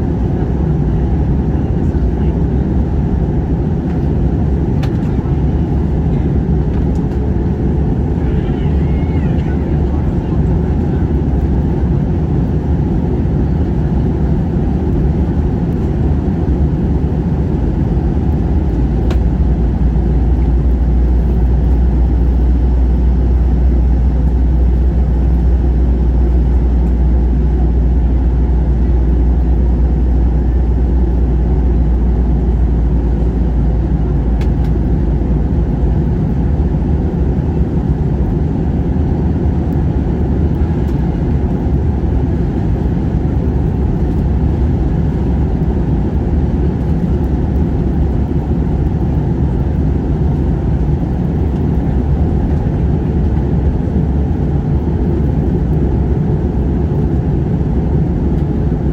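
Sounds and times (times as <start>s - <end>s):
airliner cabin roar: 0.0s - 58.9s.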